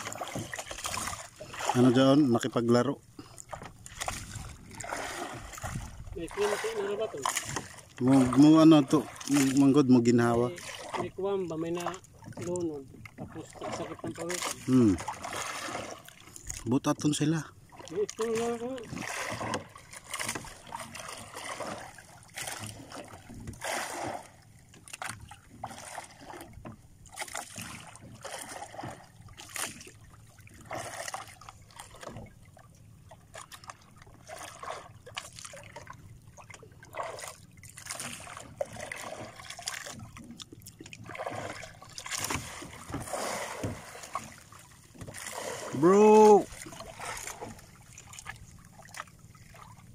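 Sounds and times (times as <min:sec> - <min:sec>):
water slapping against boat hull: 0:00.0 - 0:49.9.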